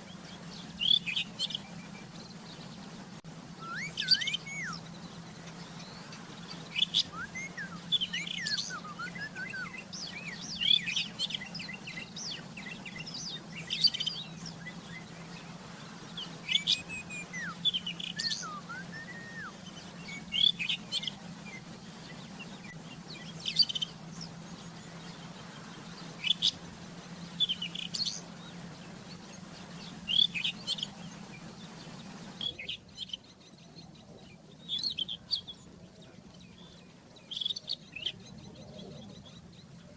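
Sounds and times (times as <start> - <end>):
bird singing chirps and whistles: 0.0 - 2.7, 3.6 - 39.9.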